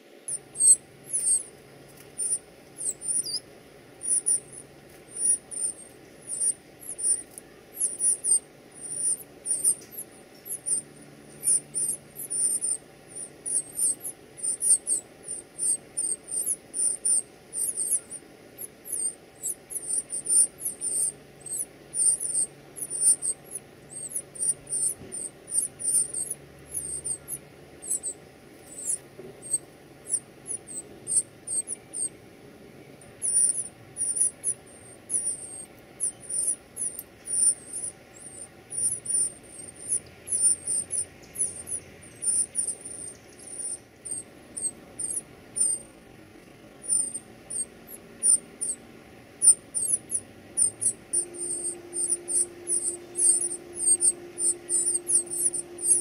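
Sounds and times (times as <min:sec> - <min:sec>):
nestlings chirping high-pitched: 0:00.0 - 0:32.2, 0:32.9 - 0:56.0.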